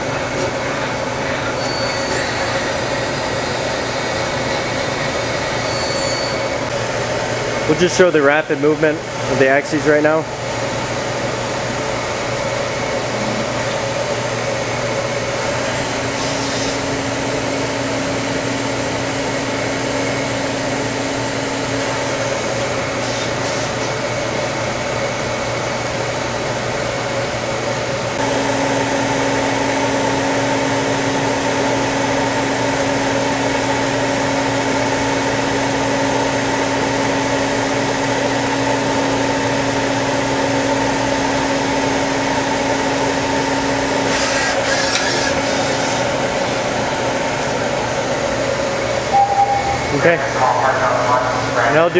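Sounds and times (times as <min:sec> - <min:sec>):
lathe humming and whining: 0:00.0 - 0:51.9.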